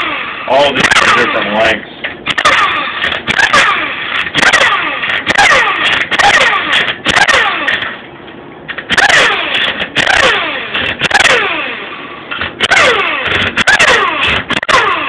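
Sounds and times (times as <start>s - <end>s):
power wrench motor whirring: 0.0s - 8.0s, 8.7s - 15.0s.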